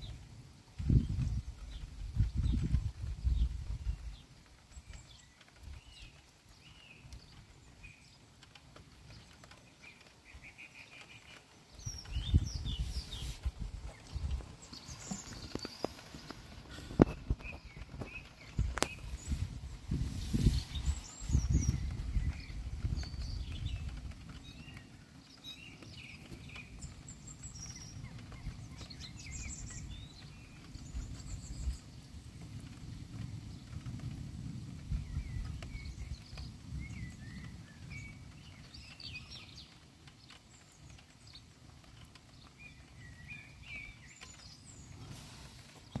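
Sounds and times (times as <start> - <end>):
birds chirping: 0.8 - 33.9, 34.9 - 46.0.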